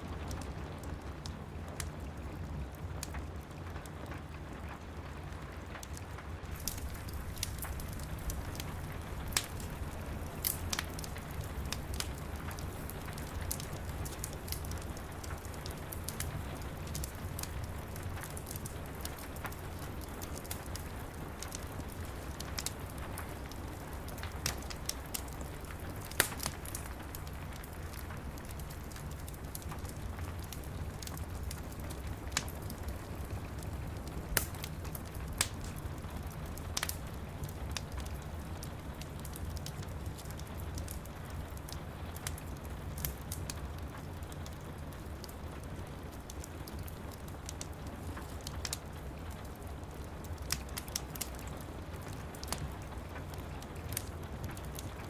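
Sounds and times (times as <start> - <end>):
fire crackling: 0.0 - 55.0
steady rain: 0.0 - 55.0.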